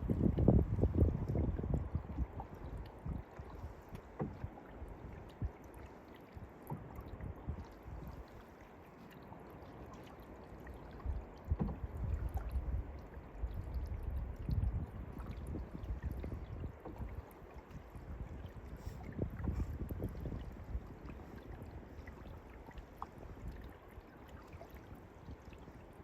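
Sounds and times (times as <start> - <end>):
paddle strokes in water: 0.0 - 26.0.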